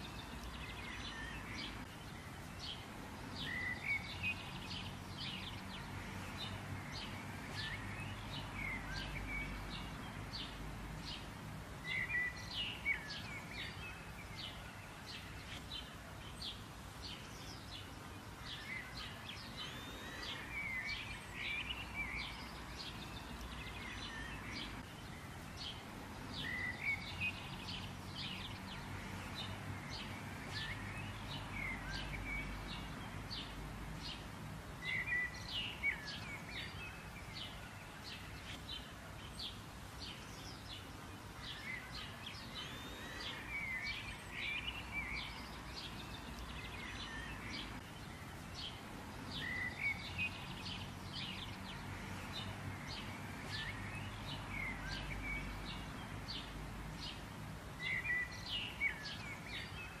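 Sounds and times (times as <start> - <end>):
low outdoor background noise: 0.0 - 60.0
small birds chirping: 0.0 - 60.0.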